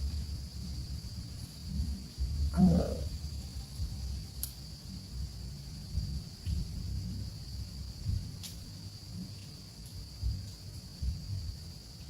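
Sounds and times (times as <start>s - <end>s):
insects shrilling: 0.0s - 11.0s
low rumbling bumps: 0.0s - 11.7s.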